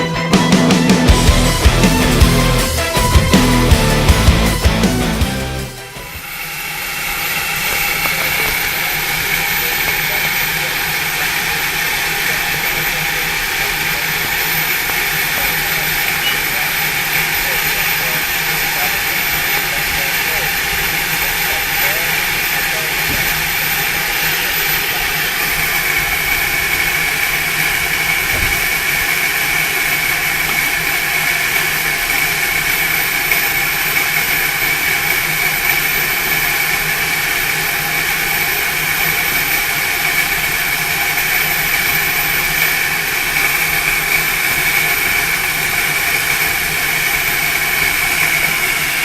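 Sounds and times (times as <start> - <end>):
steam hissing from locomotive: 5.7 - 49.0.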